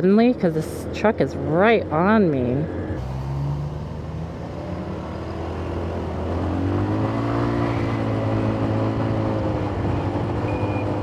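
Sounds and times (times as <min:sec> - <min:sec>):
scooter engine idling and revving: 0:00.0 - 0:11.0.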